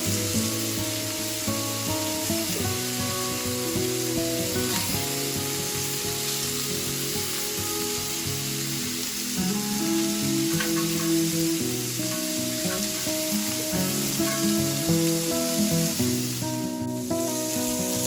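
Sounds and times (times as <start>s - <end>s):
background music with held notes: 0.0s - 18.0s
meatballs sizzling in oil: 0.0s - 18.0s.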